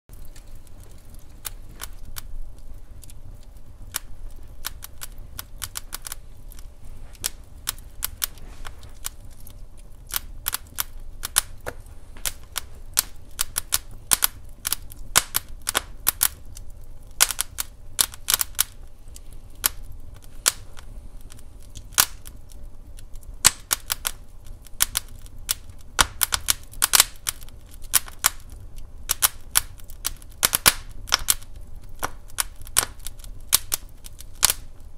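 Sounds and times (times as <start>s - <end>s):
wood fire crackling: 0.1s - 34.9s.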